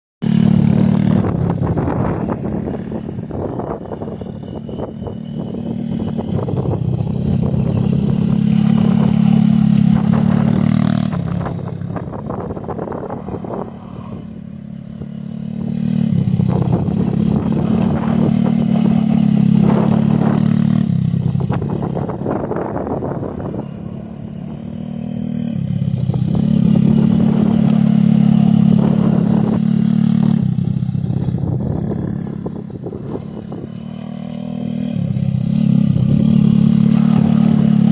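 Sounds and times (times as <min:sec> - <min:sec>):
pit bike engine running: 0:00.2 - 0:37.9.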